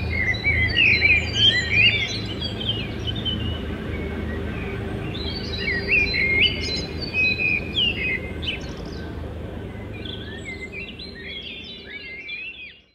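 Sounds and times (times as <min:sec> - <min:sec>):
low background noise: 0:00.0 - 0:12.9
songbirds chirping and whistling: 0:00.0 - 0:12.9.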